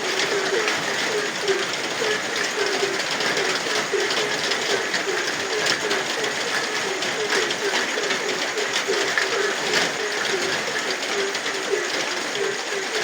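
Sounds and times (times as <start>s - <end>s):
frogs croaking: 0.0s - 13.0s
rain falling: 0.0s - 13.0s.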